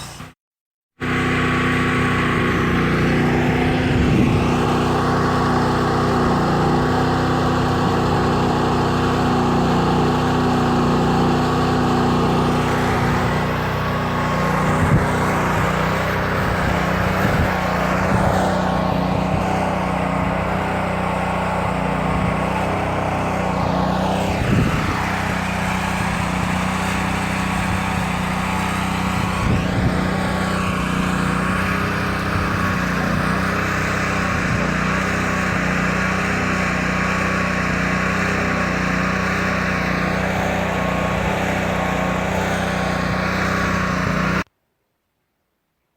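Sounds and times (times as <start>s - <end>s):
heavy machinery running: 1.0s - 44.5s.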